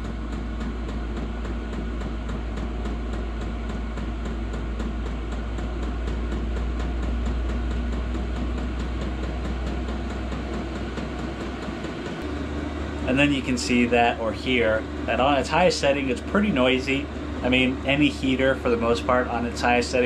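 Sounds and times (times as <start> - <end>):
fuel pump ticking rapidly: 0.0 - 20.0
heater blower fan drone: 0.0 - 20.0.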